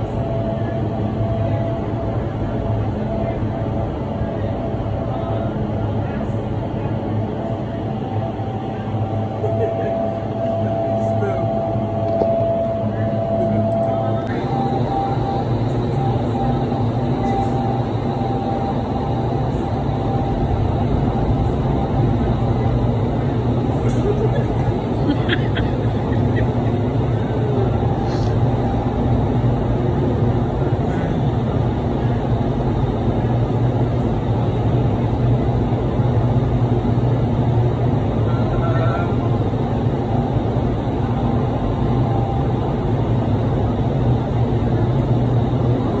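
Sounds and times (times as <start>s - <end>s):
faint whine: 0.0s - 46.0s
fans rumbling and rushing air: 0.0s - 46.0s.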